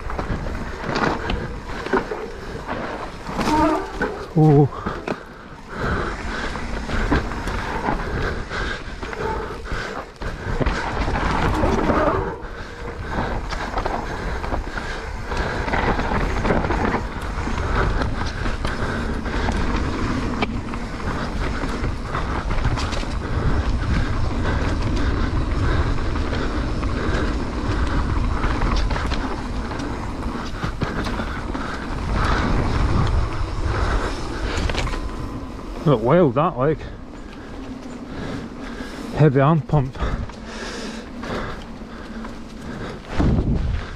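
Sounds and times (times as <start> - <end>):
bike clattering and rattling: 0.0 - 43.9
steady low rumble: 0.0 - 43.9
tyres on dirt and stones: 0.0 - 43.9.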